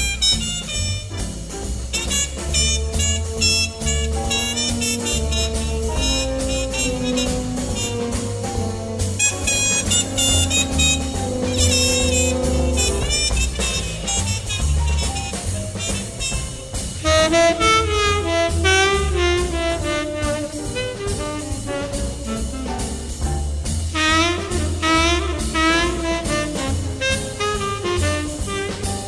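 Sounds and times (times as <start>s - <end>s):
jazz drums: 0.0s - 29.0s
walking bass: 0.0s - 29.0s
saxophone solo: 2.0s - 16.4s, 17.0s - 22.6s, 24.0s - 28.9s.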